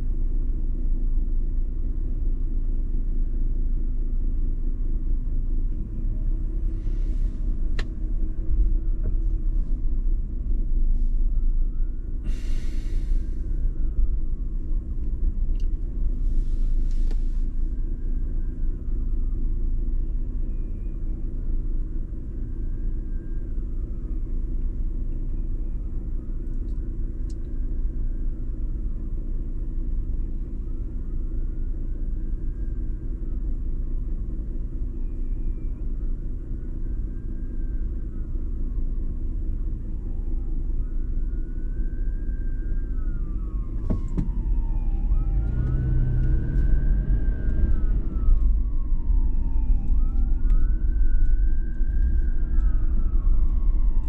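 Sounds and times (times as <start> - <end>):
car engine and road rumble: 0.0 - 54.0
emergency siren wailing: 5.8 - 54.0.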